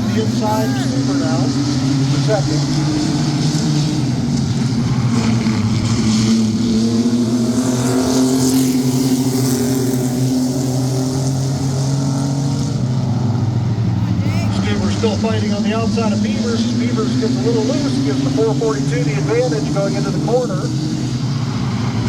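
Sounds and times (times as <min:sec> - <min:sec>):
race truck engines droning: 0:00.0 - 0:22.0.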